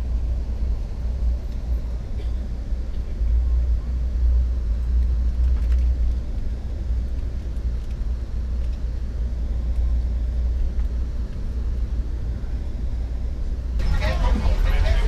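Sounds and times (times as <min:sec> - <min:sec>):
train rumble from inside carriage: 0:00.0 - 0:15.0.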